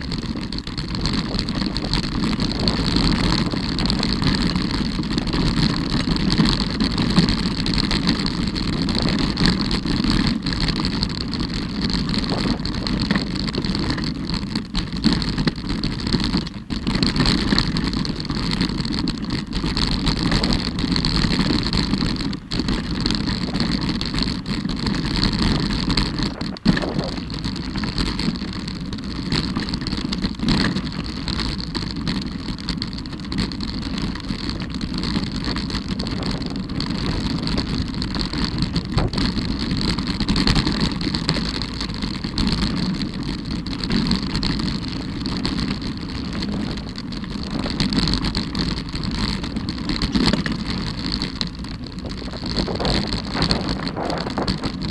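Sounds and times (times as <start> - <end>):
bike knocking and rattling: 0.0 - 54.9
bike tyres rumbling over stones: 0.0 - 54.9.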